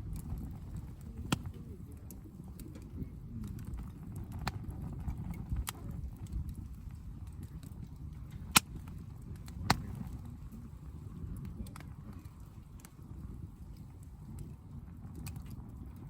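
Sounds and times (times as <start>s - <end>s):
bonfire crackling and popping: 0.0s - 16.0s
low steady rumble: 0.0s - 16.0s.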